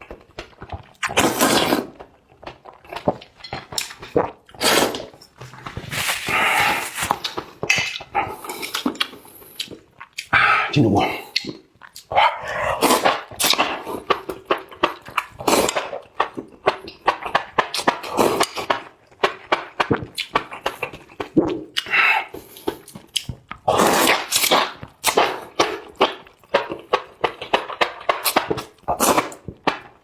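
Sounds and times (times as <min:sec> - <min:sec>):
chewing and crunching: 0:00.0 - 0:30.0
slurping: 0:01.0 - 0:02.1, 0:02.7 - 0:11.6, 0:12.5 - 0:16.4, 0:19.4 - 0:29.9.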